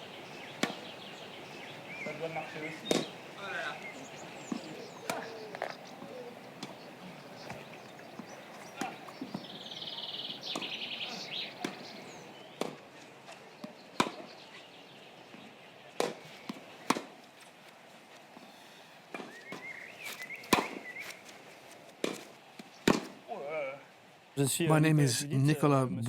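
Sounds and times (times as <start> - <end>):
tennis balls struck by rackets: 0.0 - 14.5, 15.2 - 18.5, 19.1 - 23.2
birds chirping faintly: 0.0 - 25.0.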